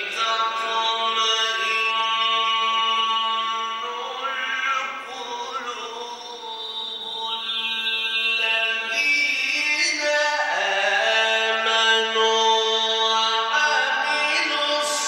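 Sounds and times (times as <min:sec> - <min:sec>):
man chanting a long held note: 0:00.0 - 0:15.0.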